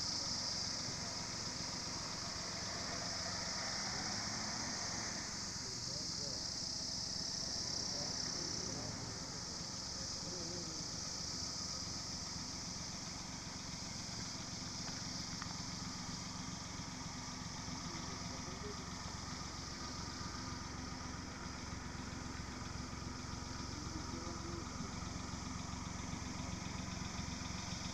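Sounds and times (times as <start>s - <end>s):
constant high hiss: 0.0s - 27.9s
engine idling: 0.0s - 27.9s.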